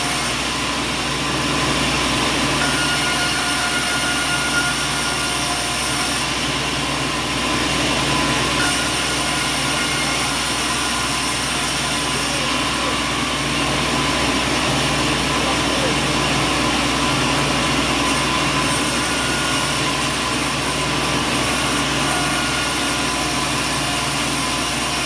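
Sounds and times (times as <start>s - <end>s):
heavy machinery running: 0.0s - 25.0s.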